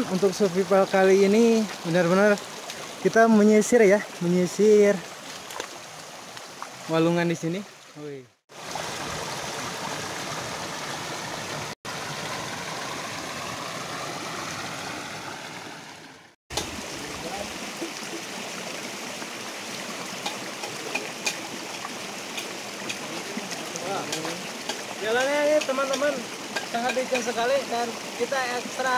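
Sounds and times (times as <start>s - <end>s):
stream splashing over stones: 0.0s - 28.9s.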